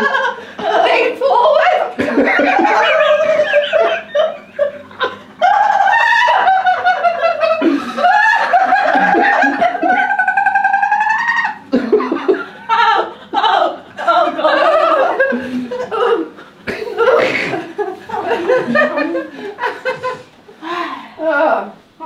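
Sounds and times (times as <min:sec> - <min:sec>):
women laughing hysterically: 0:00.0 - 0:20.3
faint low hum: 0:00.0 - 0:22.0.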